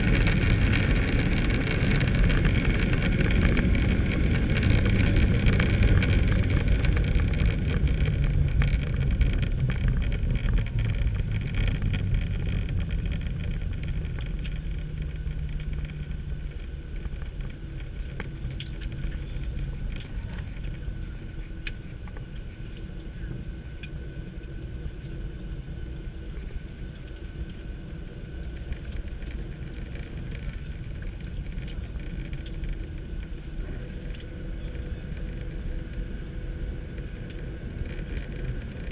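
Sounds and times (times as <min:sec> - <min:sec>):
faint clicks and rattles: 0:00.0 - 0:25.2, 0:28.4 - 0:38.9
jet engines and runway rumble: 0:00.0 - 0:38.9.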